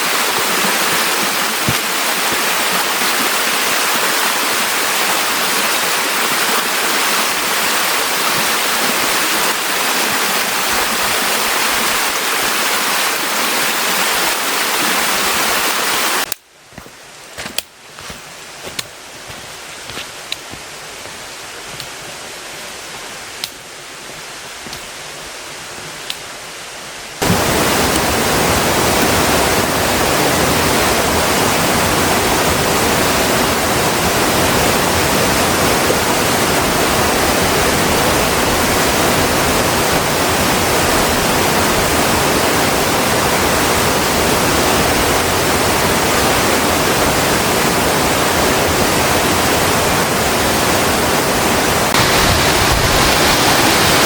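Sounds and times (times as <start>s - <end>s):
rushing mountain stream: 0.0s - 54.0s.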